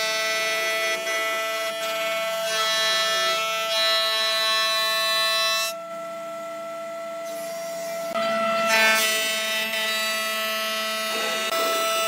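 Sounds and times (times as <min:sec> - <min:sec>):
planer high whine: 0:00.0 - 0:12.0.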